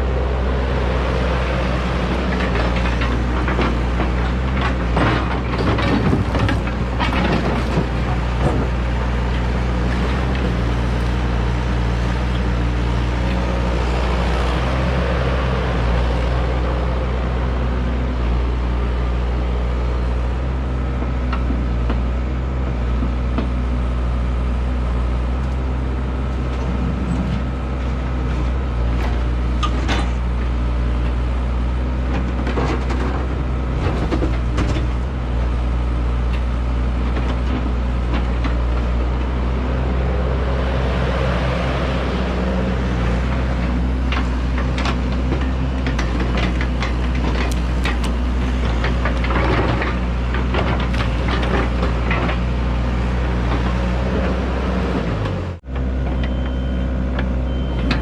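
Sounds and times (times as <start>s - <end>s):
large engine running: 0.0s - 58.0s.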